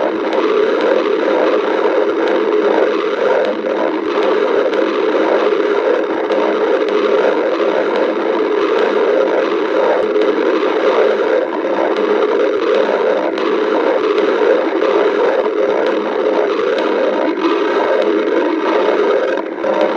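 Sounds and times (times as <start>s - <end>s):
stomach growling: 0.0s - 19.9s.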